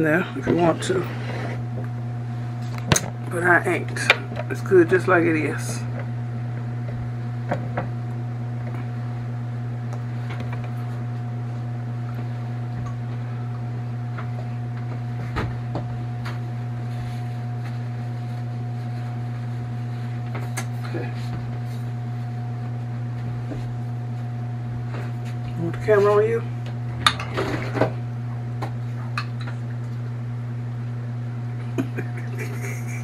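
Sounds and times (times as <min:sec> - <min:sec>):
kitchen appliance humming: 0:00.0 - 0:33.0.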